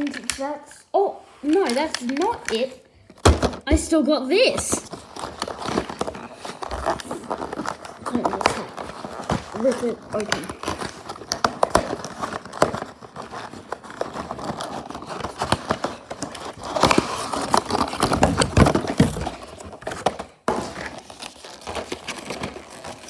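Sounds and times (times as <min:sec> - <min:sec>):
packaging crinkling and tearing: 0:01.4 - 0:03.7, 0:04.4 - 0:23.0.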